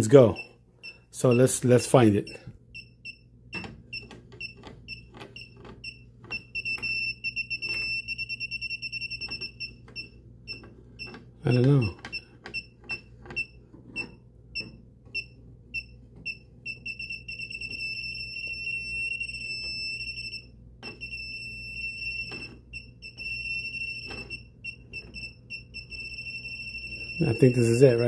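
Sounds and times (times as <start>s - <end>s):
receiver beeping: 0.0s - 28.0s.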